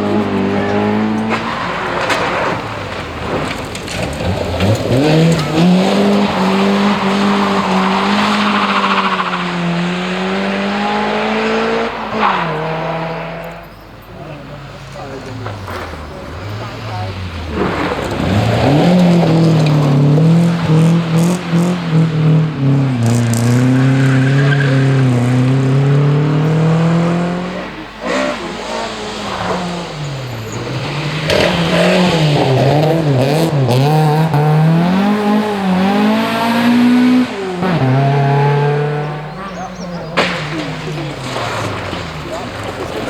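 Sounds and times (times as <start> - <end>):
rally car engine at full throttle: 0.0 - 43.0.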